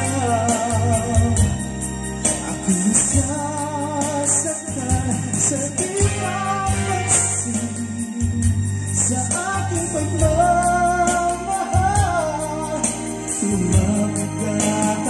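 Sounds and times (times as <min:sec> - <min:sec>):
karaoke backing track: 0:00.0 - 0:15.0
person singing: 0:00.0 - 0:15.0.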